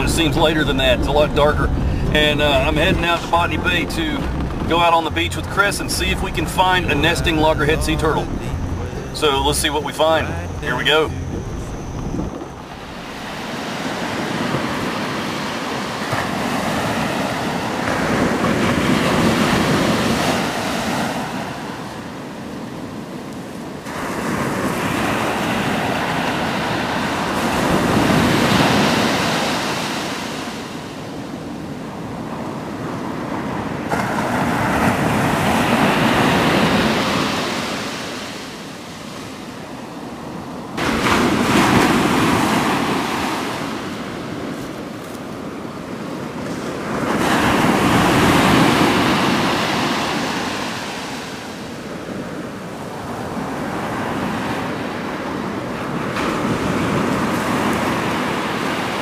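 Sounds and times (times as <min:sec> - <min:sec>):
ocean surf washing onto beach: 0:00.0 - 0:59.0.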